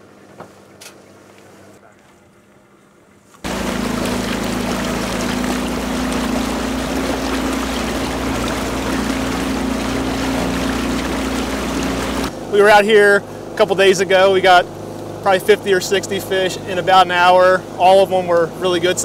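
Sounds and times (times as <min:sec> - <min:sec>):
boat motor humming: 0:03.4 - 0:19.0.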